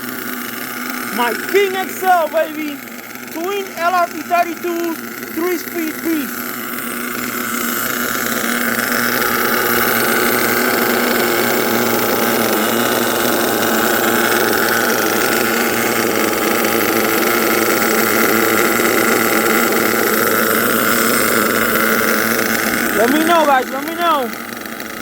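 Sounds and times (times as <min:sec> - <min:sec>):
high buzzing model truck engines: 0:00.0 - 0:25.0.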